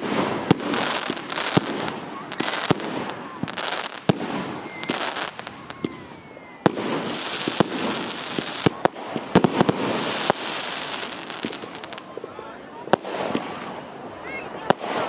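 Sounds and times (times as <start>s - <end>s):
fireworks bangs and pops: 0.0s - 15.0s
fireworks crackling hiss: 0.0s - 15.0s.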